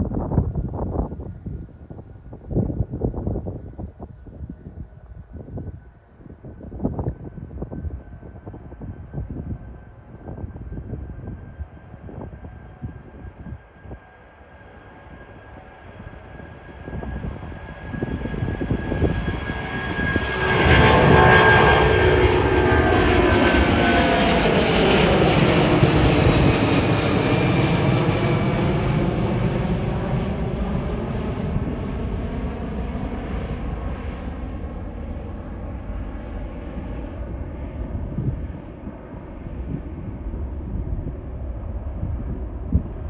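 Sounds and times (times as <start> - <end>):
jet engine roar and whine: 0.0 - 43.0.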